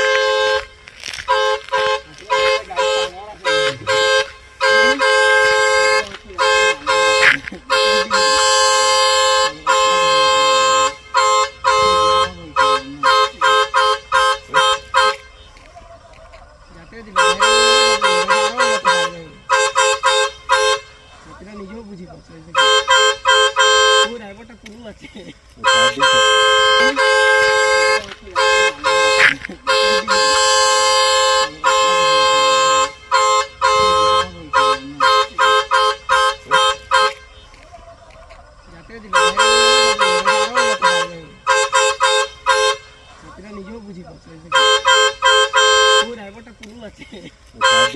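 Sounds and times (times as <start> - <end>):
truck horn honking: 0.0 - 47.9.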